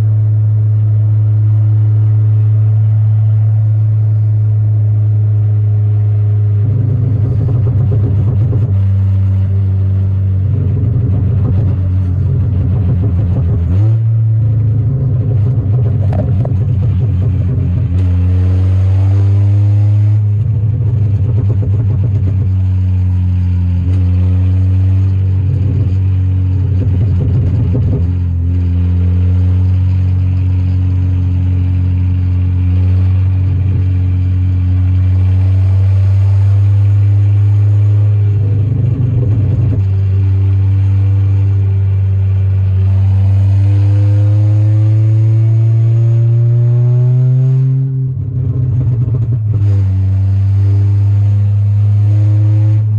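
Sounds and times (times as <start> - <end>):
car engine and exhaust droning: 0.0 - 52.9.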